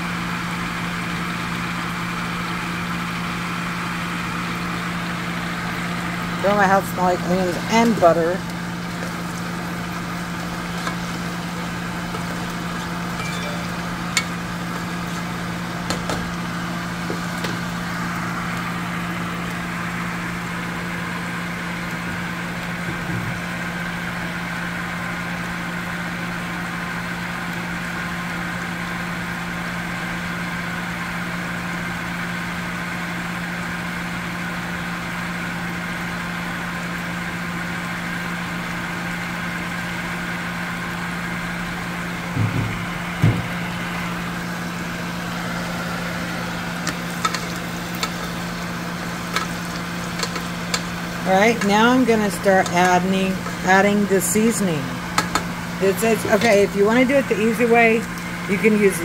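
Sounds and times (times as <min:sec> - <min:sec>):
exhaust fan humming: 0:00.0 - 0:59.0
onions sizzling in butter: 0:00.1 - 0:32.3, 0:35.0 - 0:57.1.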